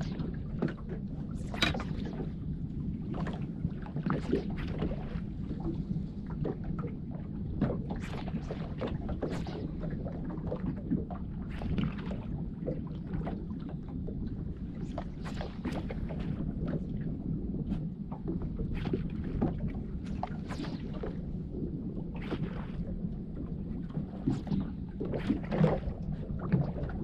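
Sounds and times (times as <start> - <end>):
water slapping and splashing: 0.0 - 27.0.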